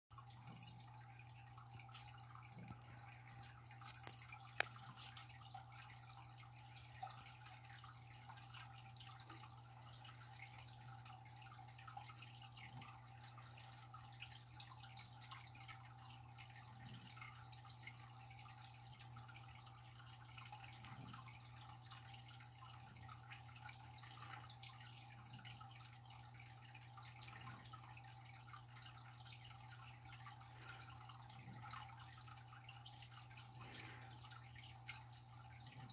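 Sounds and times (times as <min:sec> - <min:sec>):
faint dripping ticks: 0:00.2 - 0:35.9.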